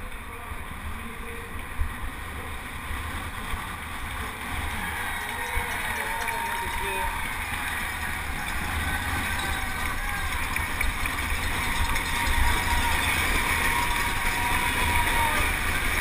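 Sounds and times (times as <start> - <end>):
crowd cheering and talking: 0.0 - 16.0.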